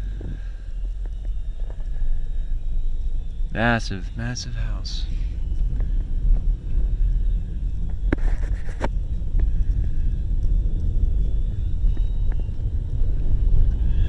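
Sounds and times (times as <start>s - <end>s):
engine and road rumble: 0.0s - 14.0s
faint clicks: 0.0s - 14.0s.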